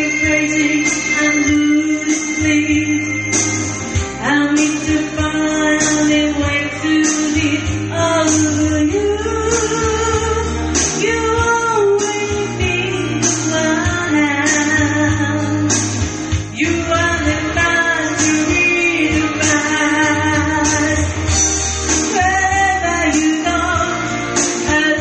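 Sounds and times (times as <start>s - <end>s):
person singing karaoke: 0.0s - 25.0s
pop-rock backing track: 0.0s - 25.0s.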